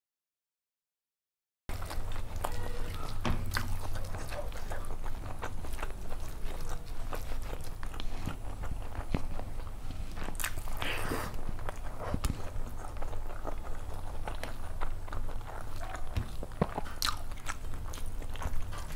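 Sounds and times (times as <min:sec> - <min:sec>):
low steady hum: 0:01.7 - 0:18.9
person chewing food: 0:01.7 - 0:18.9.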